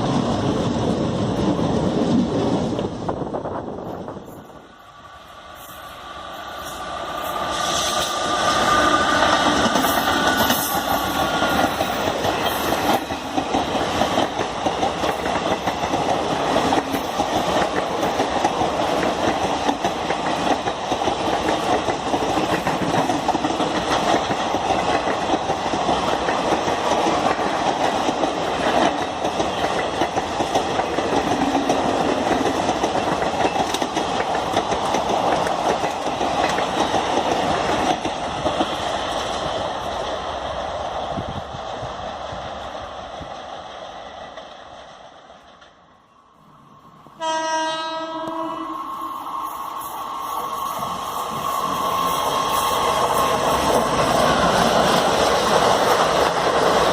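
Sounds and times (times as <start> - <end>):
train rumble: 0.0 - 56.9.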